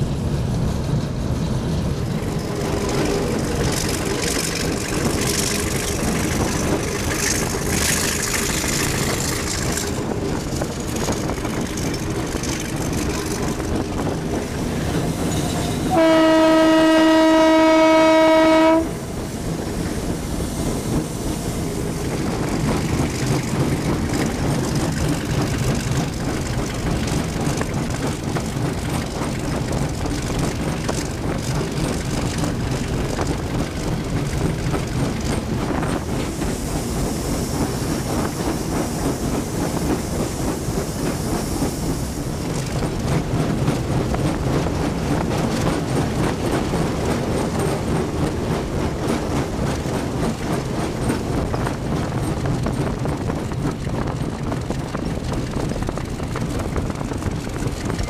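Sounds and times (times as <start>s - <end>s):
locomotive engine drone: 0.0s - 51.6s
wheel and rail noise: 0.0s - 58.0s.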